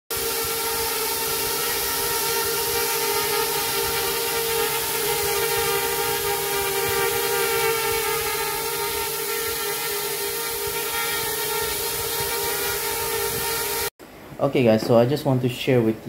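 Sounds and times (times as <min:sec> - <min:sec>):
quadcopter motors whining: 0:00.1 - 0:13.9.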